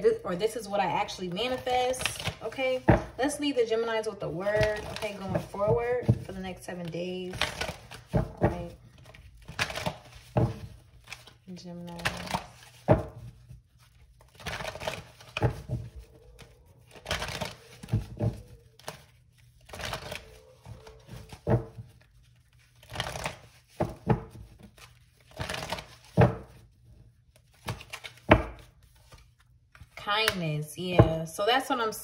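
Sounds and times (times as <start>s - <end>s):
cards being shuffled: 1.0s - 3.4s, 4.3s - 30.4s.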